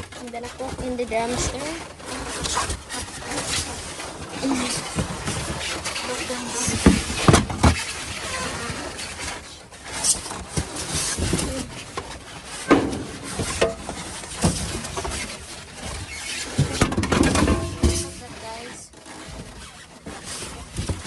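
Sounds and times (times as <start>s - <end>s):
trash rustling in a dumpster: 0.0s - 21.0s.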